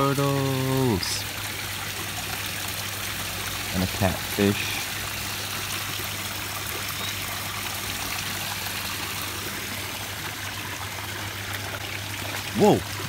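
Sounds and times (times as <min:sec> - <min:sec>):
water pouring into pond: 0:00.0 - 0:13.0.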